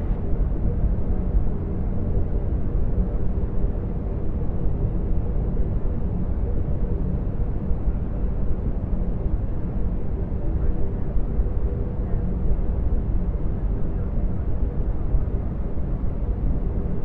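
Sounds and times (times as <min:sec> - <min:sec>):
faint even hum: 0:00.0 - 0:17.0
steady low rumble: 0:00.0 - 0:17.0.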